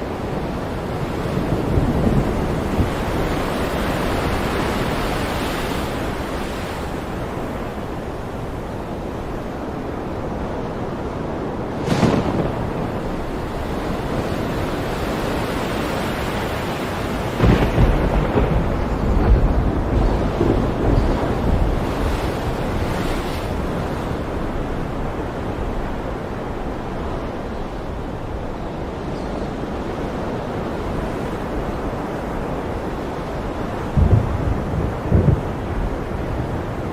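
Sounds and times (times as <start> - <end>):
waves crashing: 0.0 - 36.9
wind: 0.0 - 36.9.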